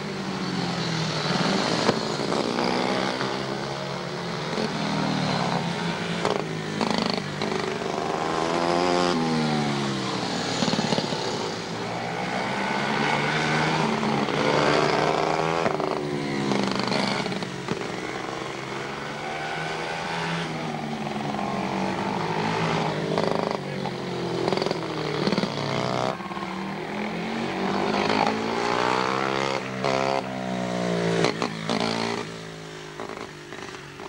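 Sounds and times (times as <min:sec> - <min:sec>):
small race car engines: 0:00.0 - 0:34.0.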